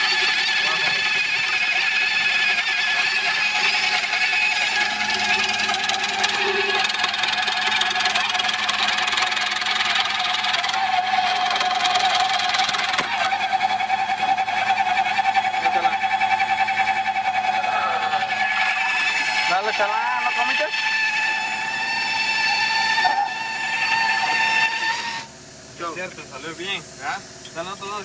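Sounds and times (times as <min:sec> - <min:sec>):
hydraulic auger whine: 0:00.0 - 0:28.0.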